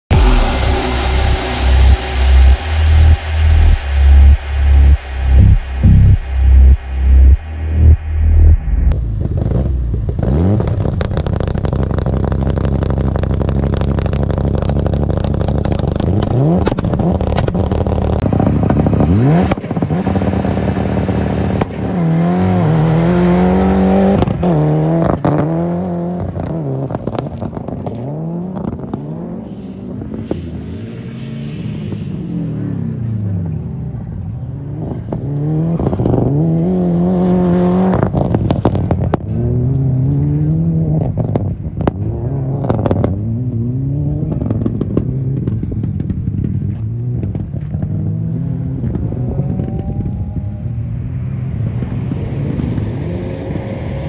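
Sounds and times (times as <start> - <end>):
rally car engine revving: 0.1 - 54.0.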